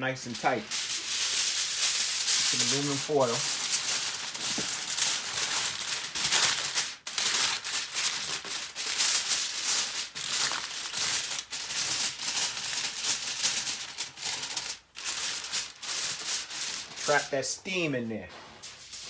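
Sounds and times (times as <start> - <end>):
aluminum foil crinkling: 0.1 - 17.4.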